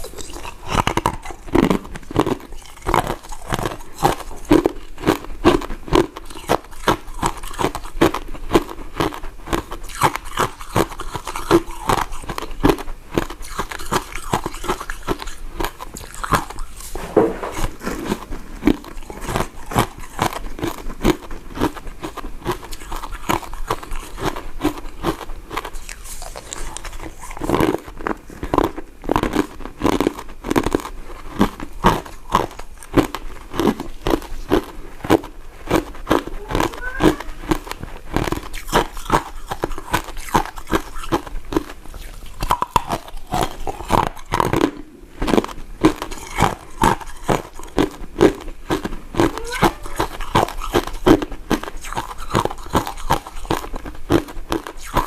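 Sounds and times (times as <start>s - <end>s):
chewing crunchy sweets: 0.0s - 55.0s.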